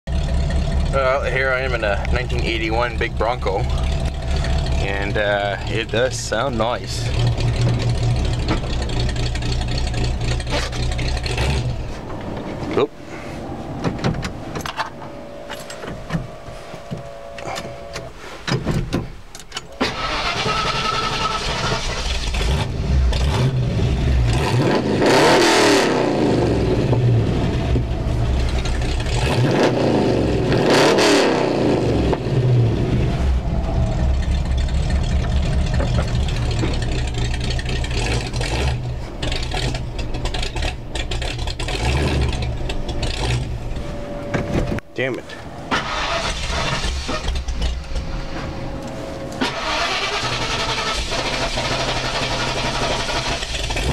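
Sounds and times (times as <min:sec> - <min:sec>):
car engine running: 0:00.1 - 0:53.9
vee eight engine revving: 0:00.1 - 0:53.9.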